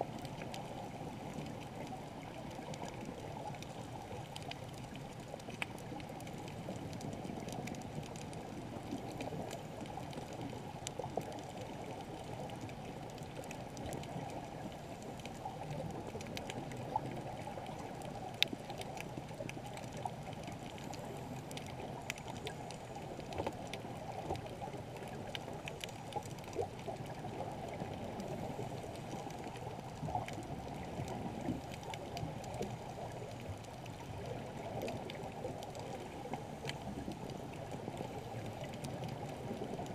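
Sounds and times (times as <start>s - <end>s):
faint underwater clicks: 0.0s - 39.9s
underwater rush of water: 0.0s - 39.9s.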